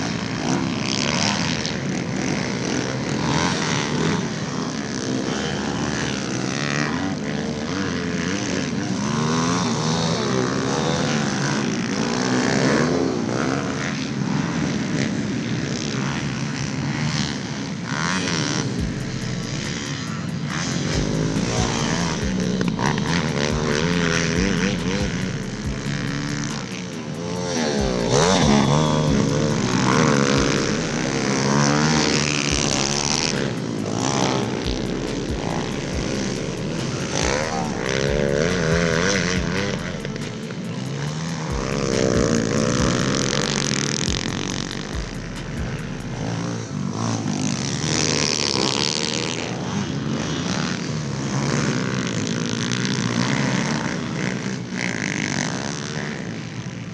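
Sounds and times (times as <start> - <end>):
pit bike engines revving: 0.0 - 56.9.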